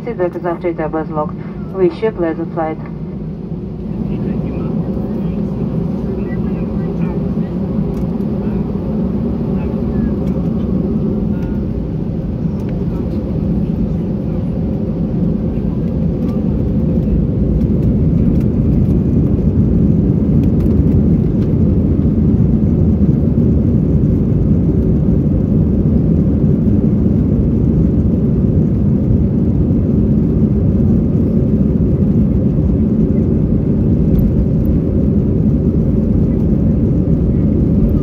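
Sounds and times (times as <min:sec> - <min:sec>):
jet engines low rumble: 0:00.0 - 0:38.0.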